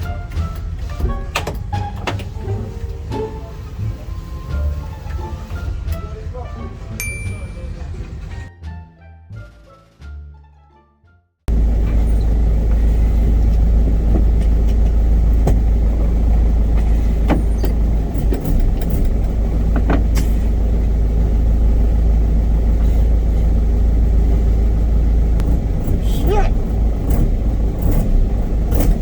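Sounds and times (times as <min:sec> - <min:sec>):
truck engine and road rumble: 0:00.0 - 0:10.8, 0:11.5 - 0:29.0.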